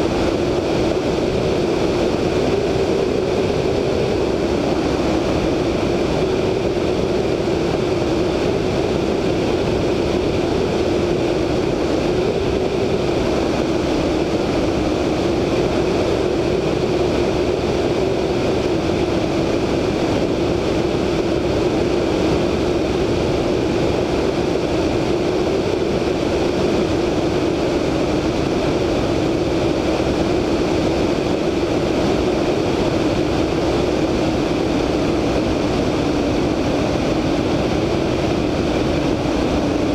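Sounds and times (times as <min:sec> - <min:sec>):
radial engine and propeller drone: 0:00.0 - 0:39.9
slipstream wind rushing: 0:00.0 - 0:39.9.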